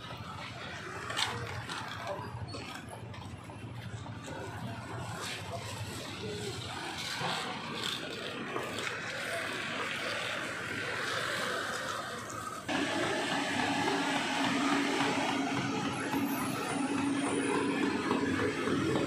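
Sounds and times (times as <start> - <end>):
motorbike traffic: 0.0 - 19.0.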